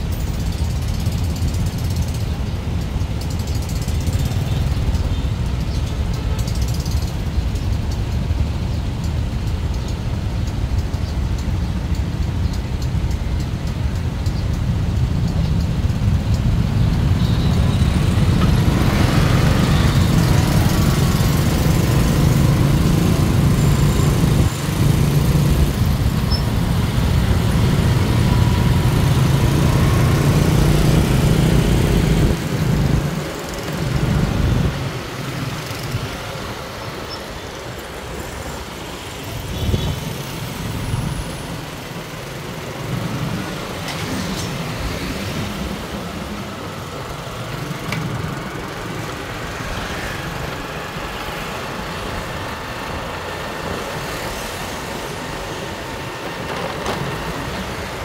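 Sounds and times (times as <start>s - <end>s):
street traffic: 0.0s - 58.0s
vehicle engine humming: 0.0s - 58.0s.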